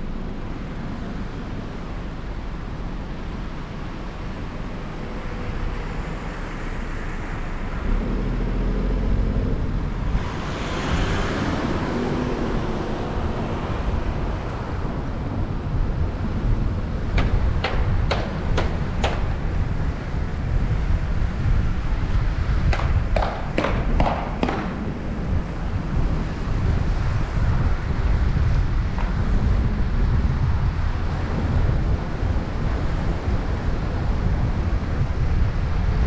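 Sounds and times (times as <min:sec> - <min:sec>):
car driving slowly: 0:00.0 - 0:36.0
wind buffeting microphone: 0:00.0 - 0:36.0.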